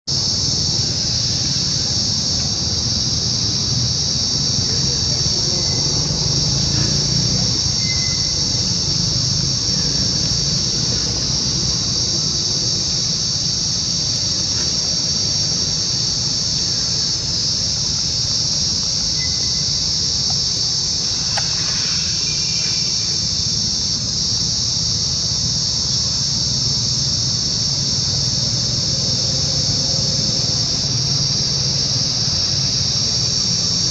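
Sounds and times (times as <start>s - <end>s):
insect chorus drone: 0.0s - 33.9s.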